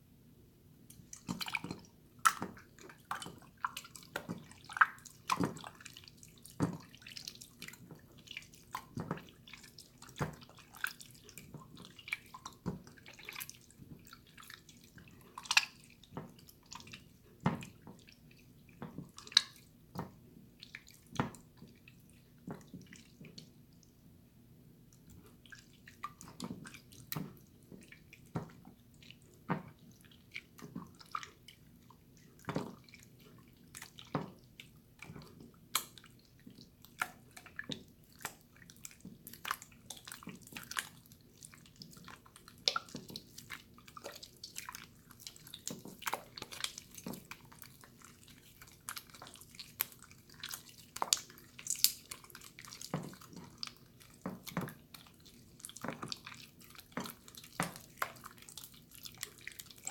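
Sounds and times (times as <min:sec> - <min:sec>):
slime squelching and dripping: 0:00.8 - 0:59.9.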